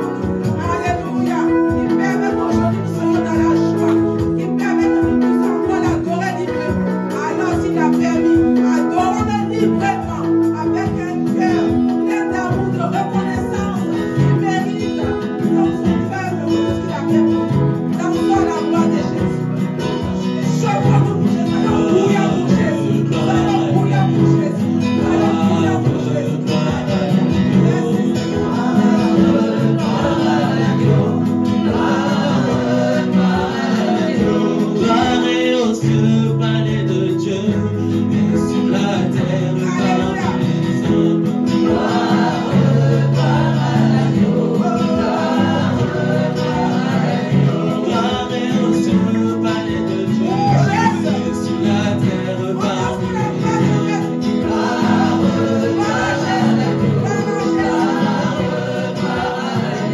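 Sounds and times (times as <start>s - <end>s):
singers on microphones: 0.0s - 59.9s.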